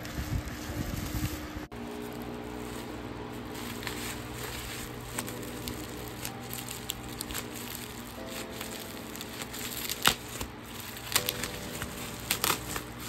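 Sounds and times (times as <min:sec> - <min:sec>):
bubble wrap crinkling: 0:00.0 - 0:13.0
soft background music: 0:01.6 - 0:13.0.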